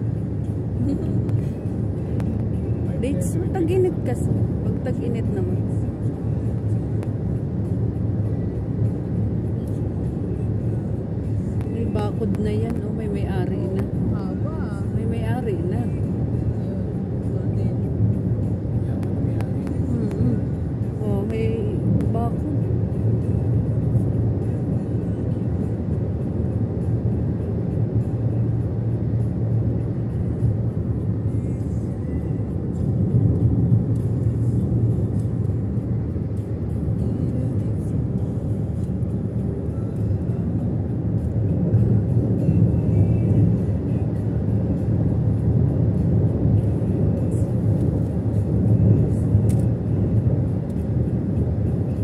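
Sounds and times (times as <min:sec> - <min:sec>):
car interior road noise: 0:00.0 - 0:52.0.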